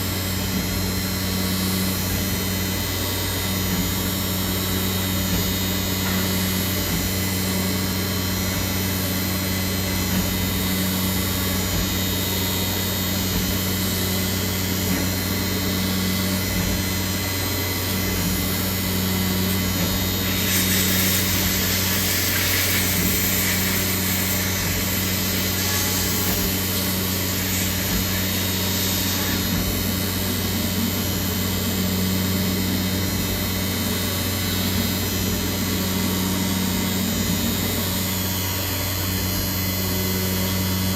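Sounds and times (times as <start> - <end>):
cnc machine spindle hum: 0.0 - 40.9.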